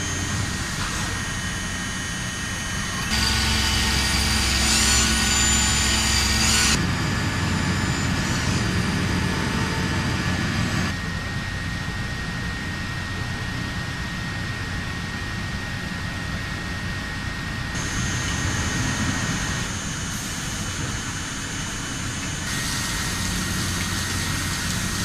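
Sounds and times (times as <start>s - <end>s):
high machine whines: 0.0s - 25.0s
industrial machinery hum: 0.0s - 25.0s.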